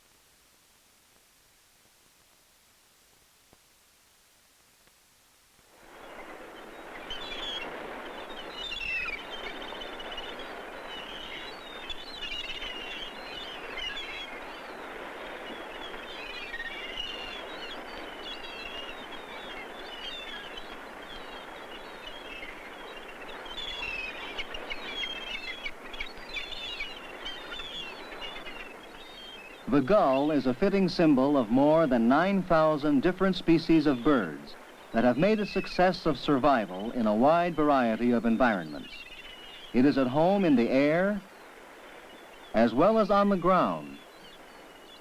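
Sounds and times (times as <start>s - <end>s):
gulls calling: 6.0s - 45.0s.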